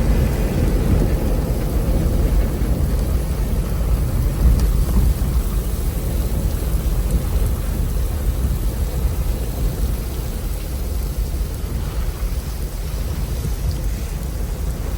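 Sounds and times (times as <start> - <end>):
continuous low rumble: 0.0 - 14.9
steady rain: 0.0 - 14.9.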